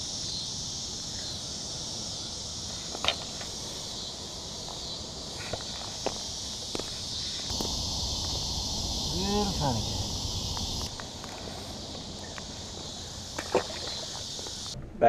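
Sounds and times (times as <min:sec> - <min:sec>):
high-pitched insect chorus: 0:00.0 - 0:14.8.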